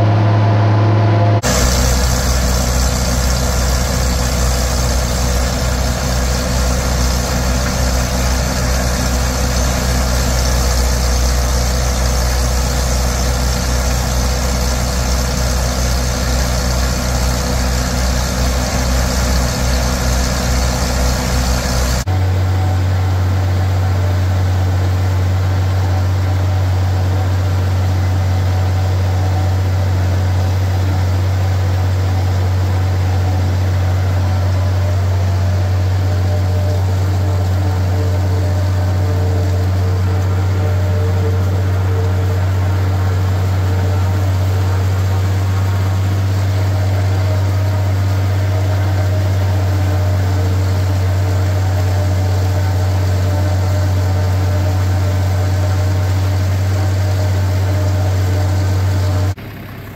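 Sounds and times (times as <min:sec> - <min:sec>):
loud machinery drone: 0:00.0 - 0:59.9
tractor engine drone: 0:00.0 - 0:59.9.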